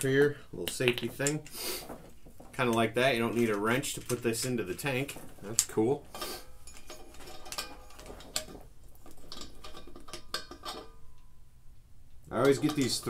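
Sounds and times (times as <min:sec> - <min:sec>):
metal fitting clinking and scraping: 0:00.9 - 0:11.4, 0:12.3 - 0:13.0.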